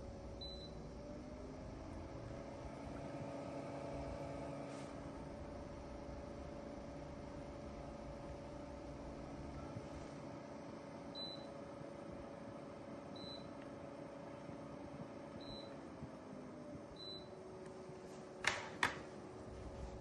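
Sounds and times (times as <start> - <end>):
air cooler fan humming: 0.0 - 20.0.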